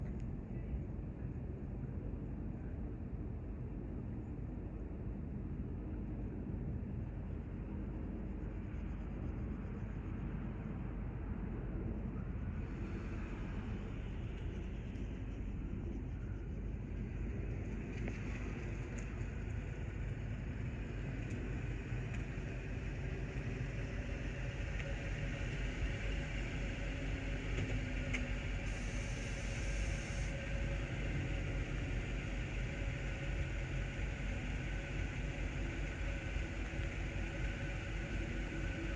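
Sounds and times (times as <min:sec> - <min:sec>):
jet engines passing overhead: 0:00.0 - 0:38.9.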